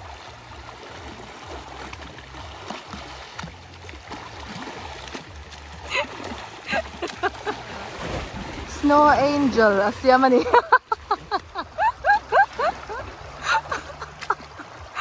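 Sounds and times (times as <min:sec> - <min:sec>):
person splashing through water: 0:00.0 - 0:15.0
stream rushing: 0:00.0 - 0:15.0.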